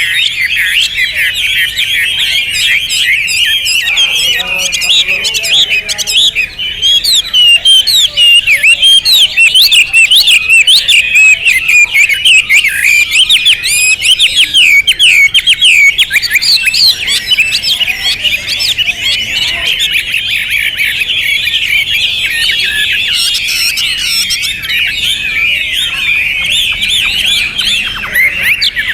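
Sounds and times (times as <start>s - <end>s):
bird singing whistled notes: 0.0s - 28.9s.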